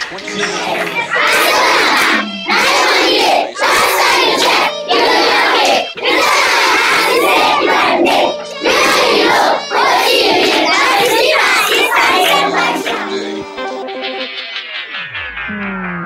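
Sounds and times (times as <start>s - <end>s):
children shouting and chanting: 0.0s - 13.4s
electronic music: 0.1s - 16.0s.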